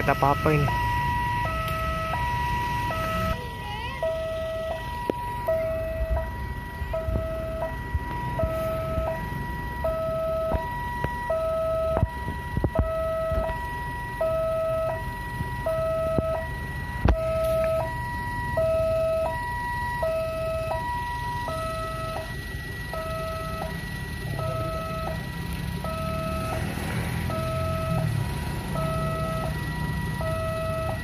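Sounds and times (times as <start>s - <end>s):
two-tone crossing alarm: 0.0s - 31.0s.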